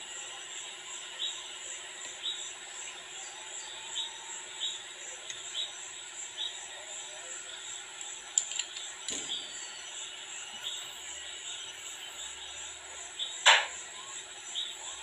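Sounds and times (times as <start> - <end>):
insect chirping: 0.0 - 15.0
steady hiss and low hum: 0.0 - 15.0.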